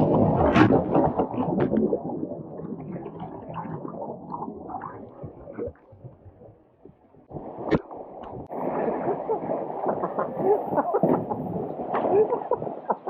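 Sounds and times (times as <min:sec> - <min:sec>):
water gurgling and sloshing: 0:00.0 - 0:13.0.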